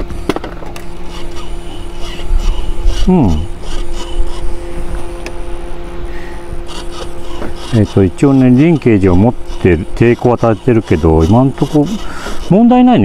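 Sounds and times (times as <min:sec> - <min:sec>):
servo buzzing hum: 0:00.0 - 0:13.0
servo falling whine: 0:00.0 - 0:13.0.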